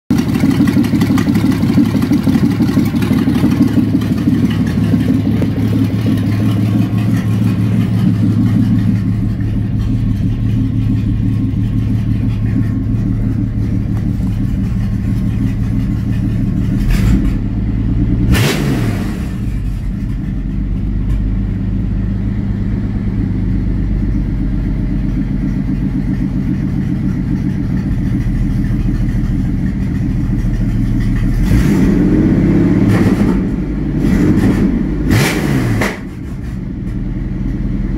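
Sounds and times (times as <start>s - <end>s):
car engine idling: 0.1s - 37.9s.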